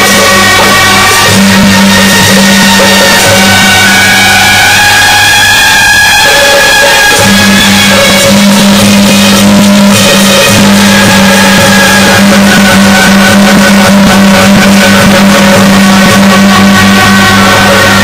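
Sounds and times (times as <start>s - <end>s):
ensemble held tones: 0.0s - 18.0s
percussion strokes: 0.0s - 18.0s.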